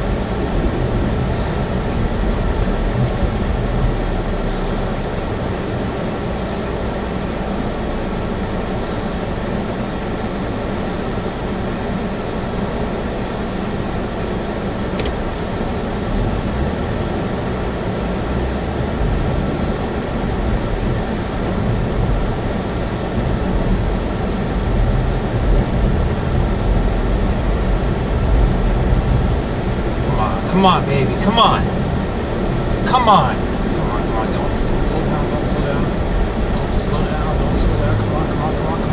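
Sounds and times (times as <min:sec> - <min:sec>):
engine and tyre rumble: 0:00.0 - 0:38.9.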